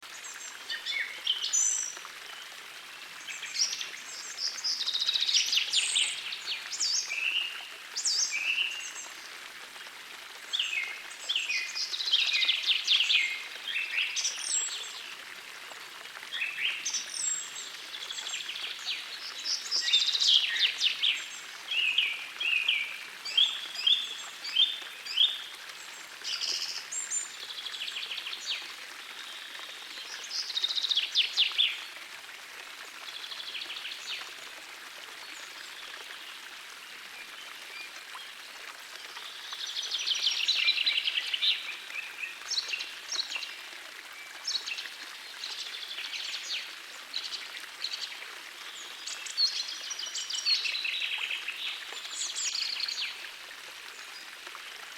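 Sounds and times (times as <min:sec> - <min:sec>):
forest stream rushing: 0:00.0 - 0:54.9.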